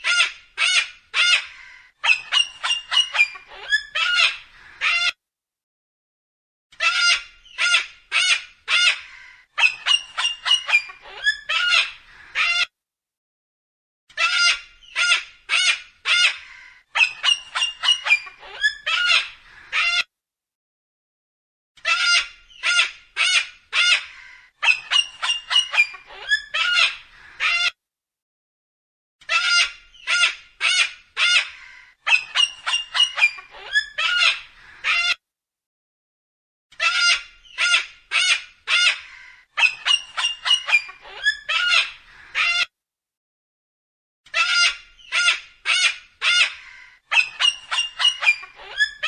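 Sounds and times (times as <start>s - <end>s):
cockatoo screeching: 0.0s - 5.1s, 6.8s - 12.7s, 14.1s - 20.0s, 21.8s - 27.8s, 29.2s - 35.2s, 36.8s - 42.7s, 44.3s - 49.0s.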